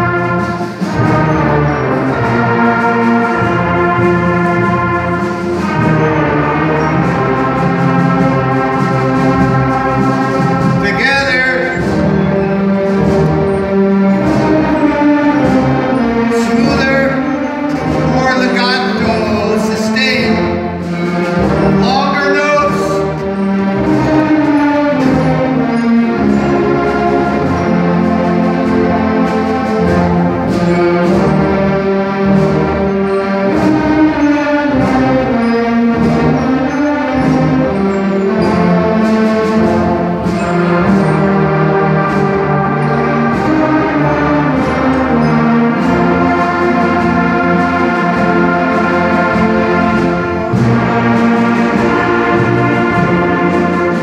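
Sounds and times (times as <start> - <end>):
concert band playing: 0.0 - 54.0
percussion hits: 0.0 - 54.0.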